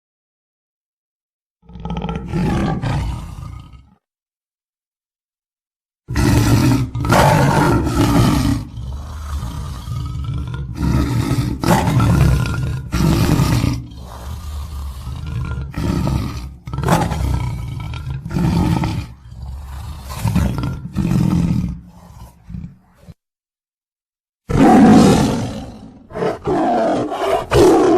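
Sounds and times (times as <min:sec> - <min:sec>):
tiger roaring and growling: 0:01.6 - 0:04.0, 0:06.1 - 0:23.2, 0:24.4 - 0:27.9.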